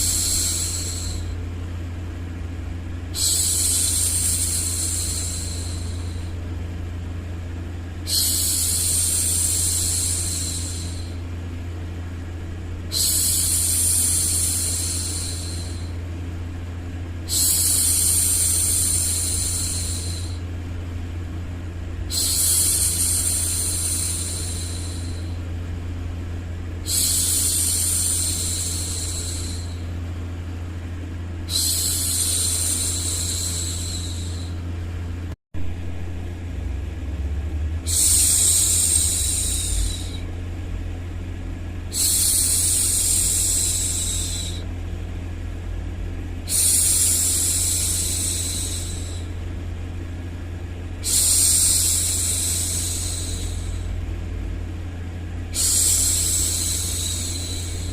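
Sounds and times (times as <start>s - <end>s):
low background hum: 0.0s - 57.9s.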